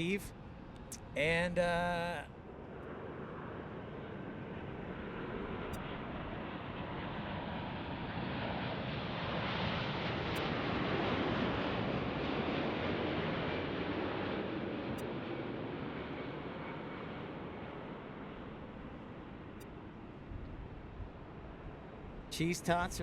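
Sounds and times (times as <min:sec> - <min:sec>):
jet airliner engine rushing: 0:00.0 - 0:23.0.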